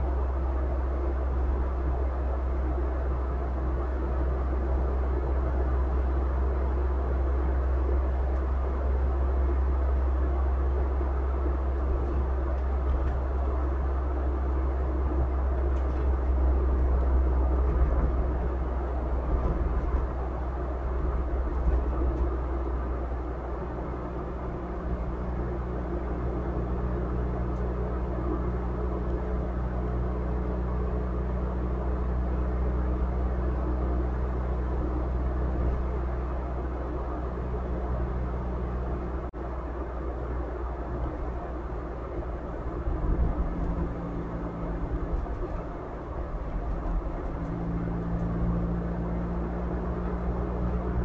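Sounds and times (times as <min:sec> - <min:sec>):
car road and engine noise: 0:00.0 - 0:51.0
steady engine hum: 0:00.0 - 0:51.0.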